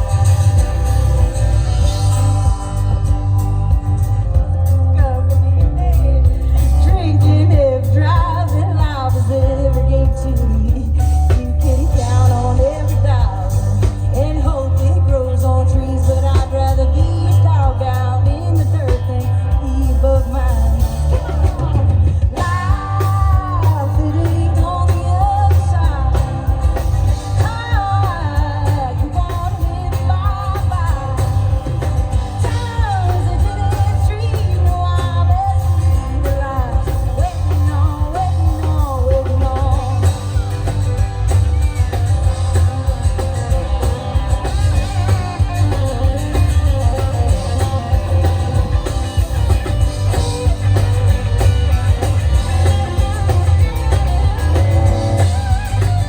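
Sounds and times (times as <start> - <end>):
amplified guitar bass and drums: 0.0 - 56.0
woman singing country song: 0.0 - 56.0.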